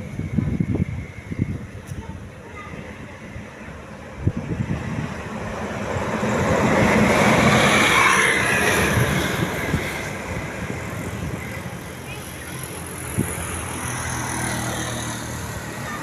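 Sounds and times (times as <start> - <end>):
bus driving past: 0.0 - 16.0.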